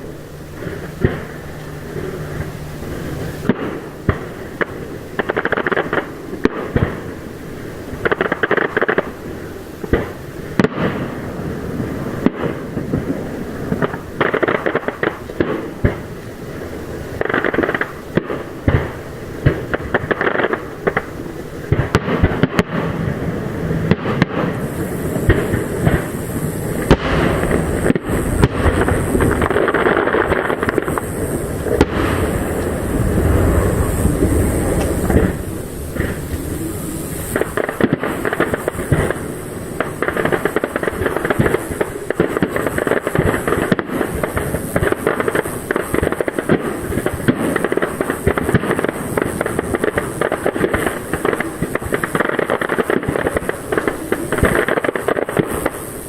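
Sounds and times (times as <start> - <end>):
firework shell bursts: 0.0 - 56.0
fireworks crackling: 0.0 - 56.0.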